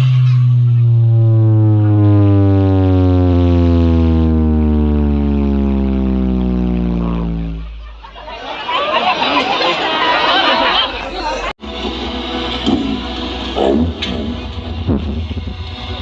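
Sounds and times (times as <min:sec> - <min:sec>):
electronic bass tone sliding down: 0:00.0 - 0:08.5, 0:10.6 - 0:16.0.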